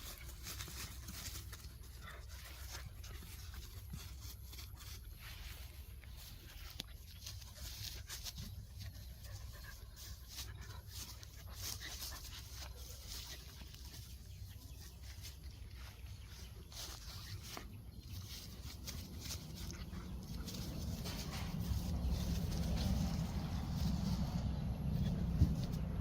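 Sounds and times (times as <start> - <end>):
dogs scuffling: 0.0 - 26.0
low steady hum: 0.0 - 26.0.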